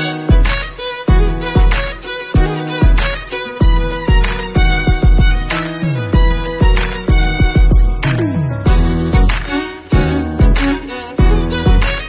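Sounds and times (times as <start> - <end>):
background music with steady beat: 0.0 - 12.0
deep kick drum: 0.3 - 5.6, 6.2 - 8.1, 8.7 - 9.4, 10.0 - 12.0.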